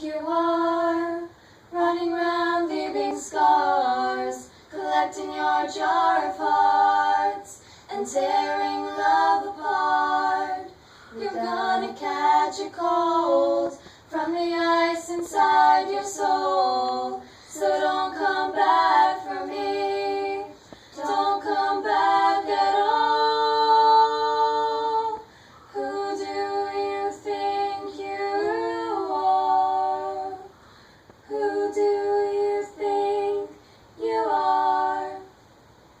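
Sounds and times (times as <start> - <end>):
woman singing unaccompanied: 0.0 - 30.6, 31.2 - 35.3.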